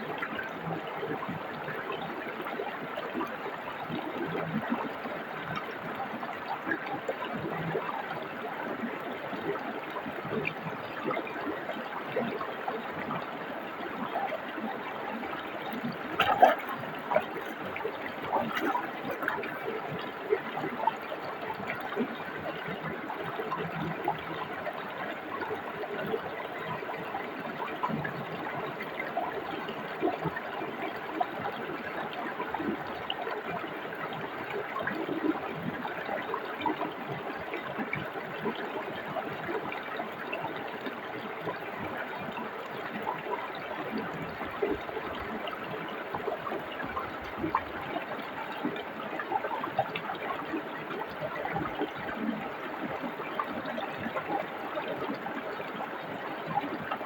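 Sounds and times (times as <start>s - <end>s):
stream rushing and trickling: 0.0s - 57.0s
water splashes and gurgles: 0.0s - 57.0s.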